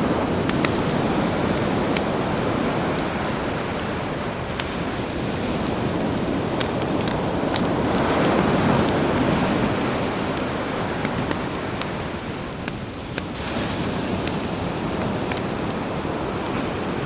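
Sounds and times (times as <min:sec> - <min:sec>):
campfire crackling: 0:00.0 - 0:17.0
surf washing on shore: 0:00.0 - 0:17.0.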